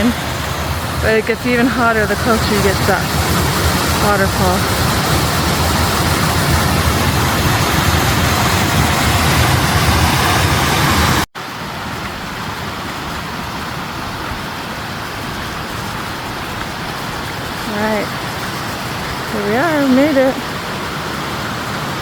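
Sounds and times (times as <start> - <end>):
waterfall and creek rushing: 0.0 - 22.0.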